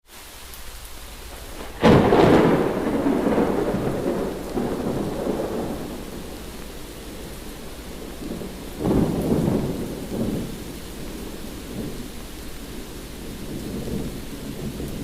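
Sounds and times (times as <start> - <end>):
steady rain: 0.0 - 15.0
thunder clap rumbling: 1.2 - 15.0.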